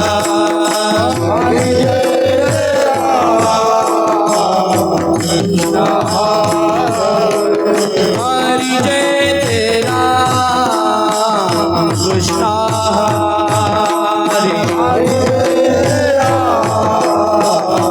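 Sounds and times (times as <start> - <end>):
person singing: 0.0 - 17.9
steady drum beat: 0.0 - 17.9.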